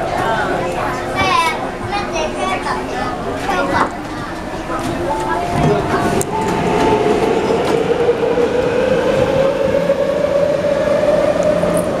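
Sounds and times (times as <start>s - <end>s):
wheels rumbling on track: 0.0s - 12.0s.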